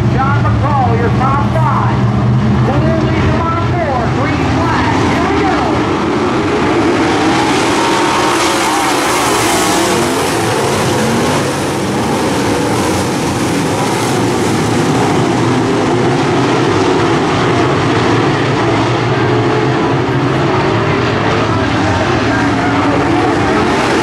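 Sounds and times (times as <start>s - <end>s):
race car engines roaring: 0.0s - 24.0s.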